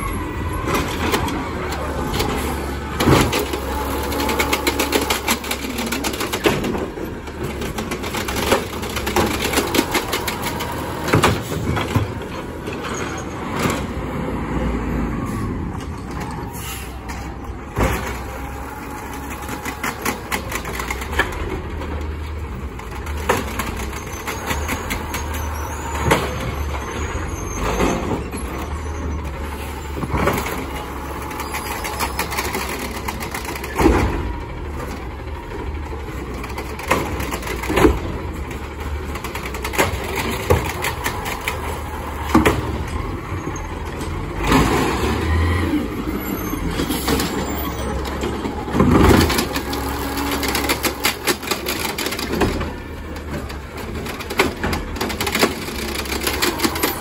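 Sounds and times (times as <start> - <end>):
garbage truck engine running: 0.0 - 57.0
carts banging into hopper: 0.5 - 14.1, 16.0 - 29.2, 29.8 - 57.0.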